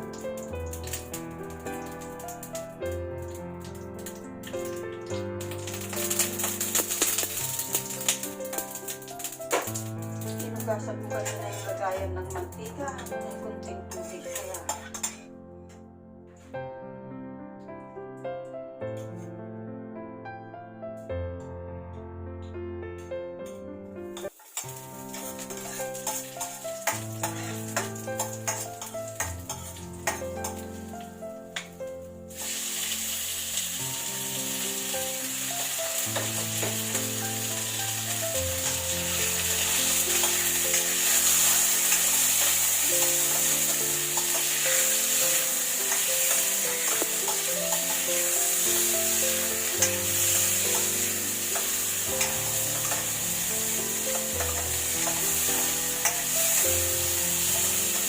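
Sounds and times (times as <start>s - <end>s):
food sizzling in hot oil: 0.0s - 15.2s, 24.2s - 58.0s
background music: 0.0s - 58.0s.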